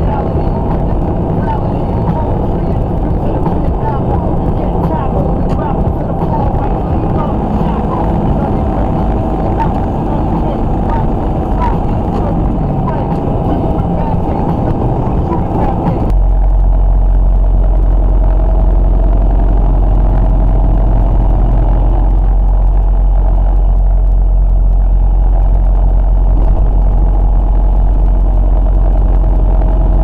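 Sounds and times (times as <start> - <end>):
vehicle engine and road drone: 0.0 - 30.0.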